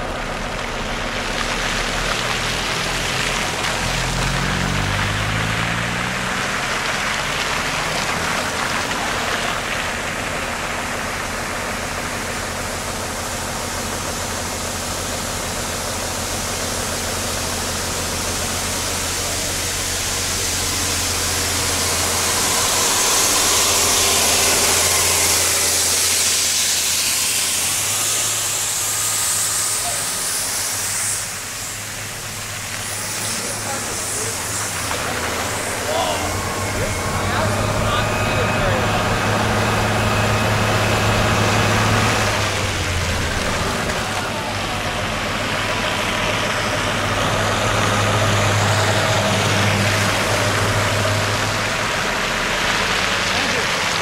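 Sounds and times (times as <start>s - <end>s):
bus tyres hissing through slush: 0.0s - 54.0s
steady engine hum: 0.0s - 54.0s
engine revving up: 0.9s - 10.0s, 17.8s - 54.0s.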